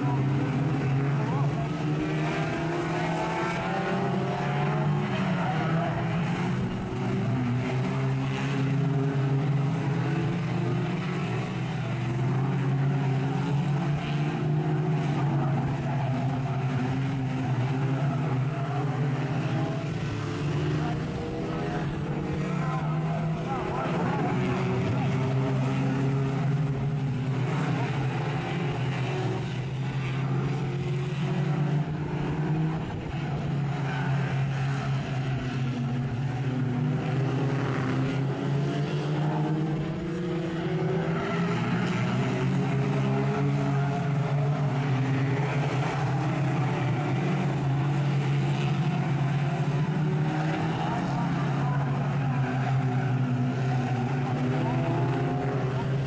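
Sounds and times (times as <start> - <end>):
racing car engines: 0.0 - 56.0.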